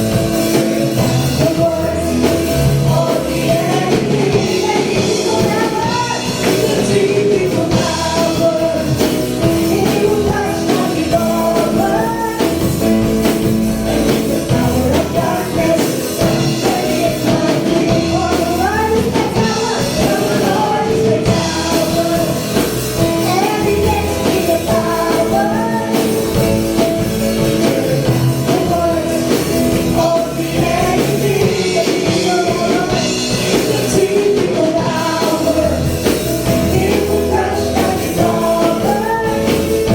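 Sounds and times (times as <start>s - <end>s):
gospel voices singing with band: 0.0s - 39.9s.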